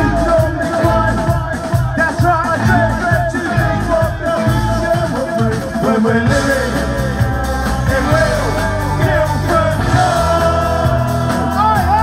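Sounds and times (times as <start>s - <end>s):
bass guitar: 0.0s - 12.0s
drums: 0.0s - 12.0s
person singing: 0.0s - 12.0s.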